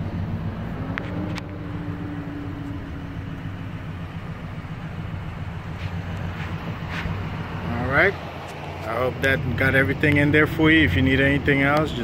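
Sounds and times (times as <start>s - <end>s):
engine idling from inside cab: 0.0s - 12.0s.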